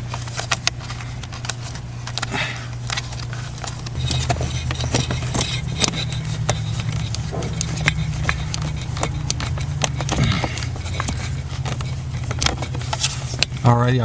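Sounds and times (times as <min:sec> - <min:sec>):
steady low hum: 0:00.0 - 0:14.0
hand tool clicks and scrapes: 0:02.1 - 0:13.7.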